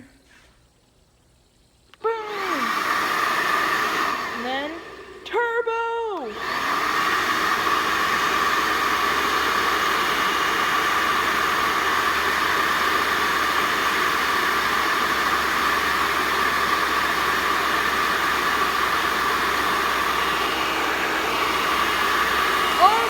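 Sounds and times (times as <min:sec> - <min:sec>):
hair dryer blowing: 0:02.0 - 0:23.0.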